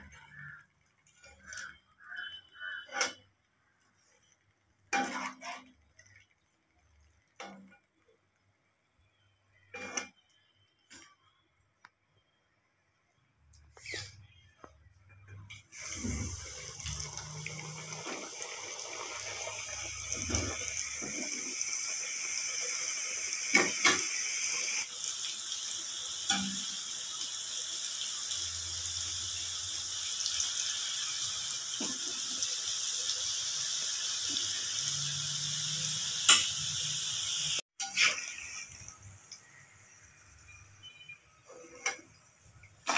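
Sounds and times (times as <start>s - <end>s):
dough sizzling in hot oil: 0.0s - 11.4s, 15.6s - 42.9s.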